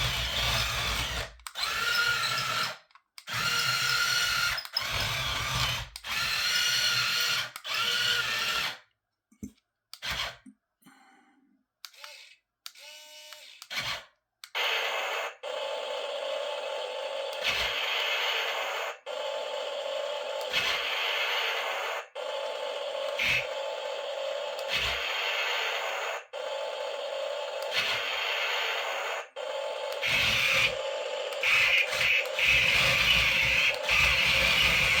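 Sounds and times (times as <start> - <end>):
toy electric gear motors whirring: 0.0 - 8.8, 11.8 - 35.0.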